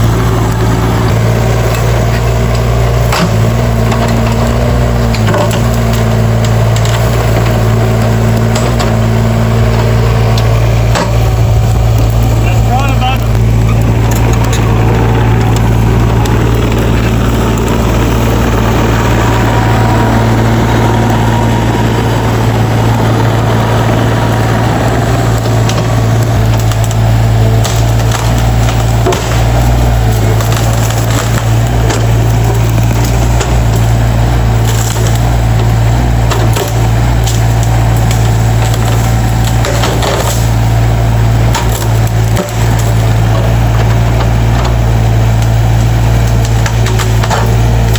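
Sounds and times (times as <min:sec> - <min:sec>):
excavator diesel engine running: 0:00.0 - 0:47.9
wood cracking and splintering: 0:00.0 - 0:47.9.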